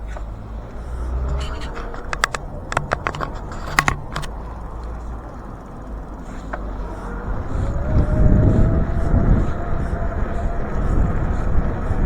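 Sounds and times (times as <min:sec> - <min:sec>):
wind and road noise: 0:00.0 - 0:12.0
bicycle clicks and rattles: 0:00.1 - 0:11.6.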